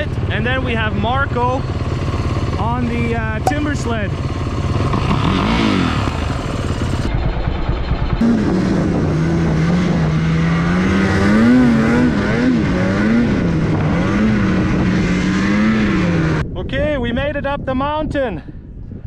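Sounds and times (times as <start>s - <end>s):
snowmobile engine running: 0.0s - 16.4s.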